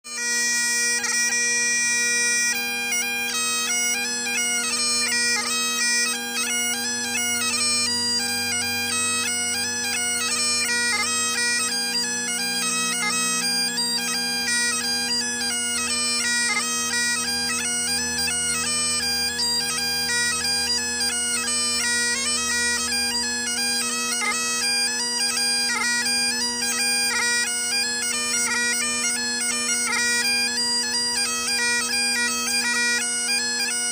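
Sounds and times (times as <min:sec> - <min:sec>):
bagpipe playing a tune: 0:00.1 - 0:33.9.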